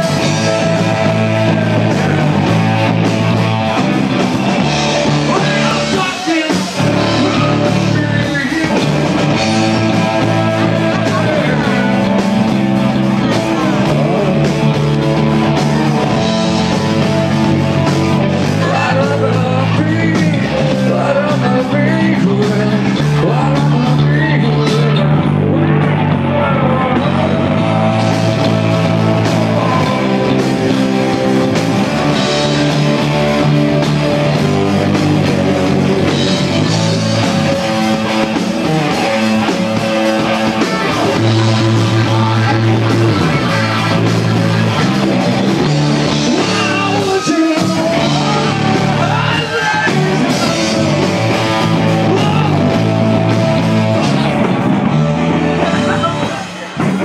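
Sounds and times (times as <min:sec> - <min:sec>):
bass guitar: 0:00.0 - 0:57.0
electric guitar: 0:00.0 - 0:57.0
person singing: 0:00.0 - 0:57.0
steady drum beat: 0:00.0 - 0:57.0.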